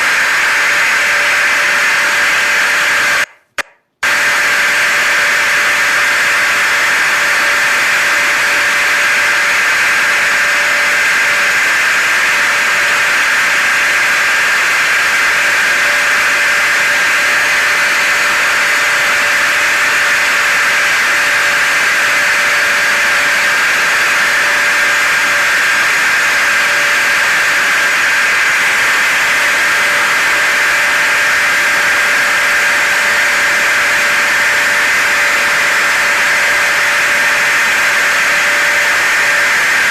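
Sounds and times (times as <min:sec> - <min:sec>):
high motor whine: 0:00.0 - 0:03.3, 0:04.0 - 0:39.9
loud even white noise hiss: 0:04.0 - 0:39.9
low motor whine: 0:04.0 - 0:39.9.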